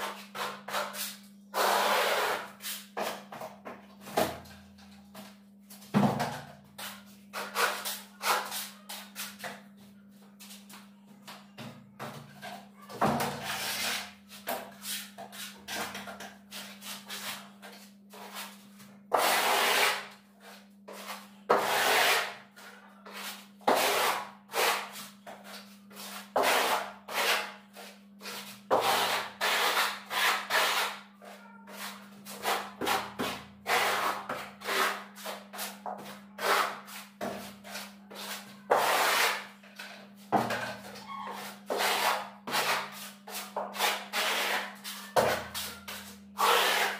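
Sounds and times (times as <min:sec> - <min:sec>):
trowel scraping plaster on wall: 0:00.0 - 0:03.3, 0:06.8 - 0:09.5, 0:13.2 - 0:46.9.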